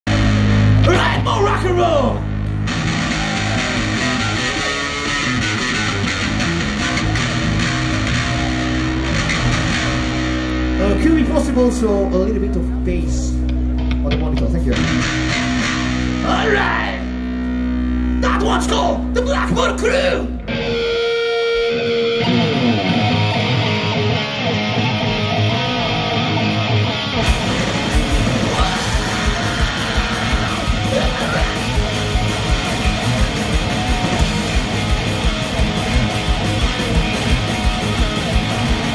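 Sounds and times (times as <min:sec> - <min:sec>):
bass guitar: 0:00.0 - 0:38.9
electric guitar strummed chords: 0:00.1 - 0:38.9.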